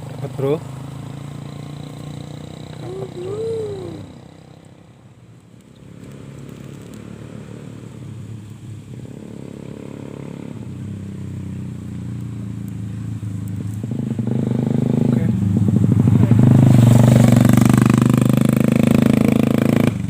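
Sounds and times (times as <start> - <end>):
vehicle engine running: 0.0 - 8.0, 8.6 - 20.0.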